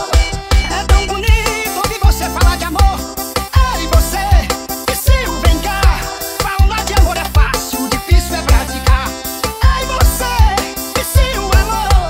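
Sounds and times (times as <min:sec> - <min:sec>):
fast kick drum beat: 0:00.1 - 0:10.6
pitch-bending melody line: 0:00.2 - 0:10.3.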